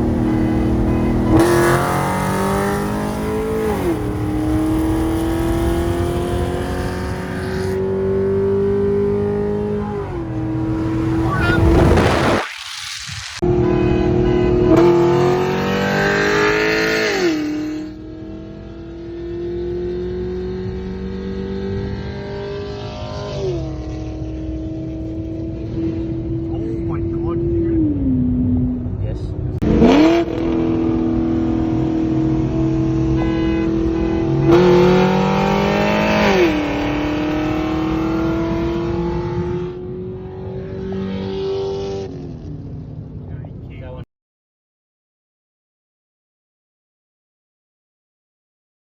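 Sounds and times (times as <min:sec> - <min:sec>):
car engine accelerating hard: 0:00.0 - 0:42.8.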